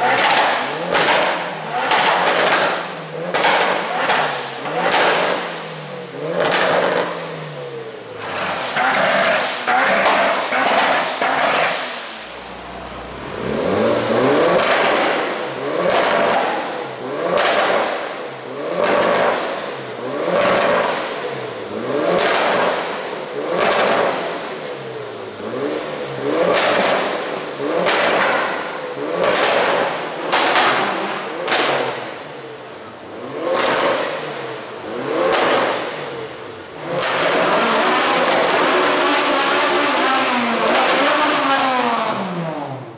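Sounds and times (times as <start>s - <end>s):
exhaust bangs and pops: 0.0s - 7.4s, 8.2s - 24.7s, 25.7s - 32.2s, 33.5s - 42.2s
turbocharged engine revving: 0.0s - 42.9s.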